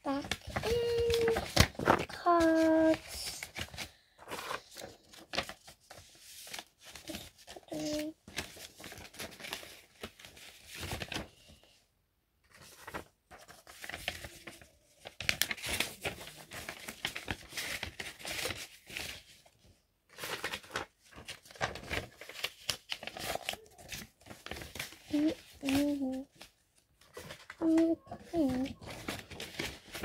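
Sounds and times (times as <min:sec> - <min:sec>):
paper and cardboard rustling: 0:00.0 - 0:11.8, 0:12.4 - 0:30.0.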